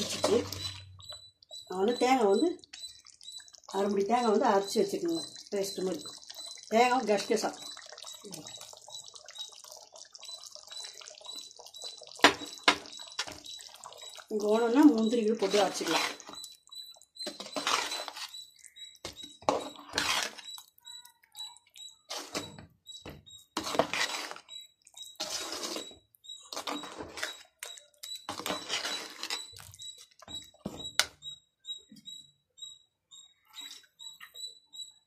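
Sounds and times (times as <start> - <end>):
ladle scraping and squelching in pot: 0.0 - 31.1.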